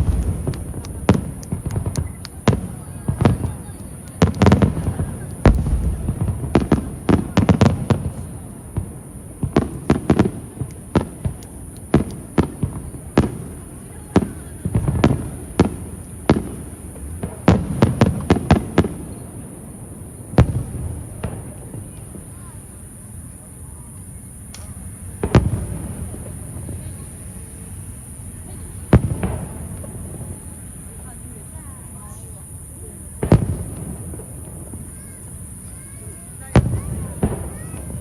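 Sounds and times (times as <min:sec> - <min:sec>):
fireworks bursting with sharp bangs: 0:00.0 - 0:38.0.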